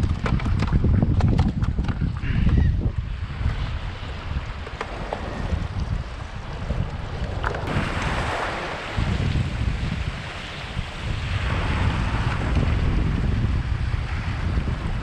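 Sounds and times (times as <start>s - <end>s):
waves washing against rocks: 0.0s - 15.0s
wind rumbling on microphone: 0.0s - 15.0s.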